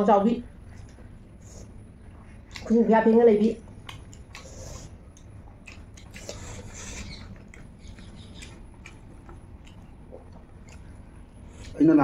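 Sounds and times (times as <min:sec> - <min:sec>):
chewing: 0:00.8 - 0:02.8, 0:03.6 - 0:11.9.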